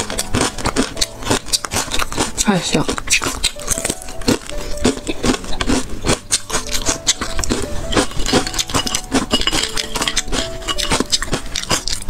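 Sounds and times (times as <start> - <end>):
crunchy food being chewed: 0.0 - 12.0
soft background music: 0.0 - 12.0.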